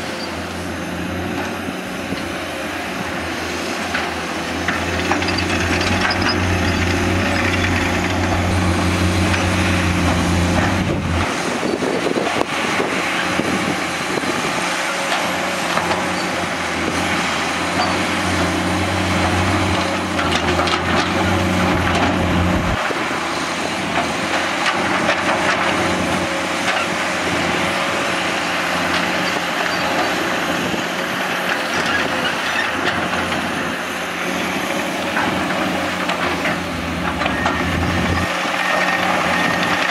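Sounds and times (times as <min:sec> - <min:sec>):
excavator diesel engine drone: 0:00.0 - 0:39.9
rough mechanical noise: 0:00.0 - 0:39.9.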